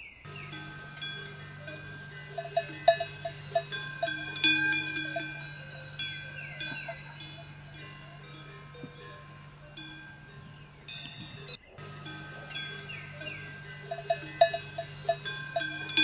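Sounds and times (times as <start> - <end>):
livestock bells clanking: 0.3 - 16.0
steady low hum: 0.3 - 16.0.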